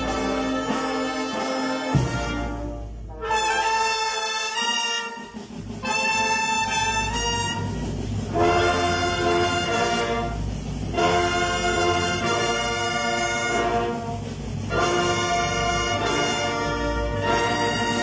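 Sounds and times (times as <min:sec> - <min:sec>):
wind band playing funeral march: 0:00.0 - 0:18.0.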